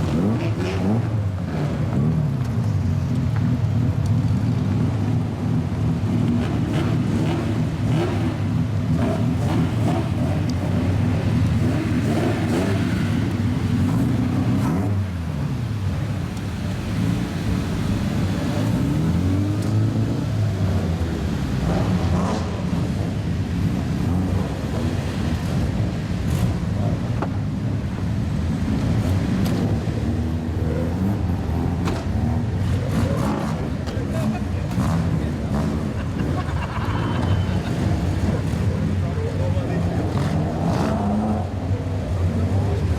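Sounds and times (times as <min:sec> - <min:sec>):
loud car exhausts revving: 0:00.0 - 0:02.8, 0:03.4 - 0:42.9.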